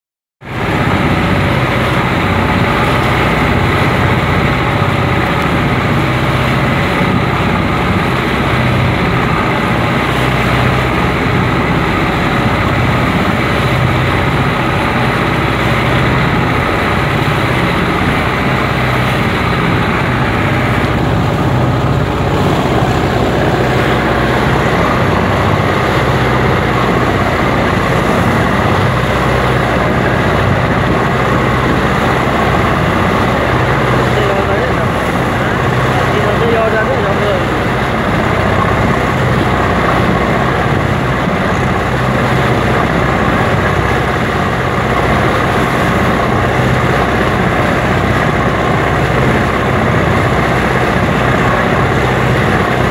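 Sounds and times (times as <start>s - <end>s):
boat engine drone: 0.4s - 52.9s
water rushing and spray: 0.4s - 52.9s.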